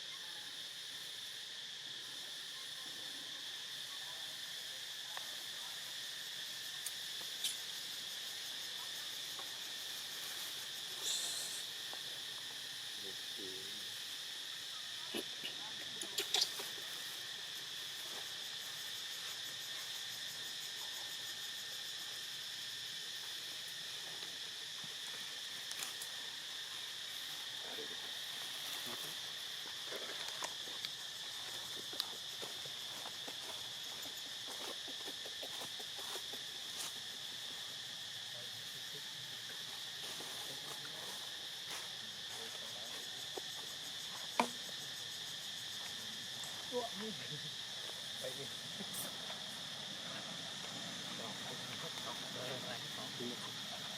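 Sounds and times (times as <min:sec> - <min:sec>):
insect chorus drone: 0:00.0 - 0:53.9.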